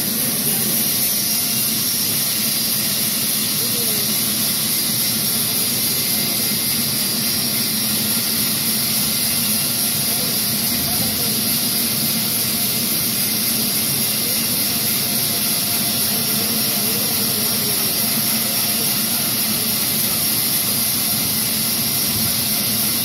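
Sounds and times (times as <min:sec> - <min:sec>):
band saw hum and hiss: 0:00.0 - 0:23.0.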